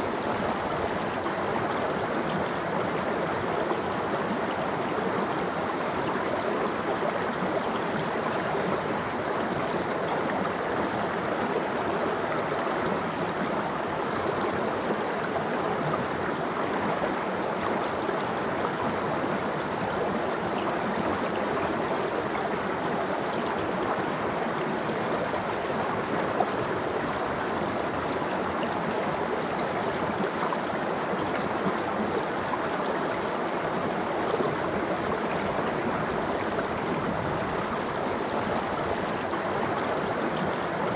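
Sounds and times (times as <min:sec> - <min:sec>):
mountain stream flowing over rocks: 0:00.0 - 0:40.9.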